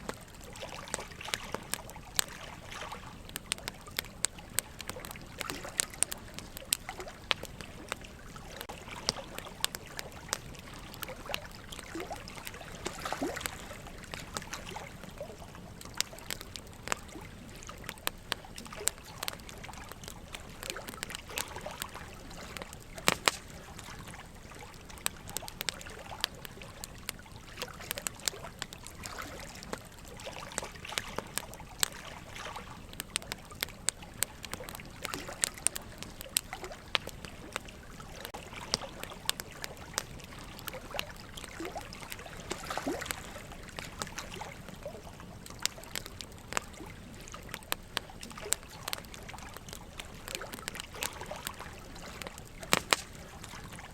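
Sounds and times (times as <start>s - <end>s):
fire crackling and popping: 0.0s - 53.9s
running water trickling: 0.0s - 53.9s.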